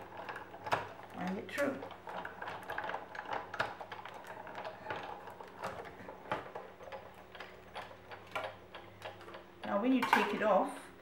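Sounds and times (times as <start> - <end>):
die-cutting machine rollers: 0.0 - 10.4
crank clicks and ticks: 0.0 - 10.5.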